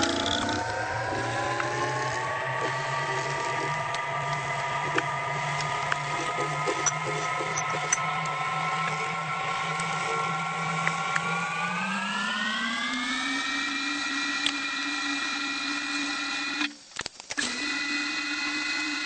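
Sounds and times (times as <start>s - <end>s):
lathe motor whine: 0.0s - 16.8s, 17.4s - 19.0s.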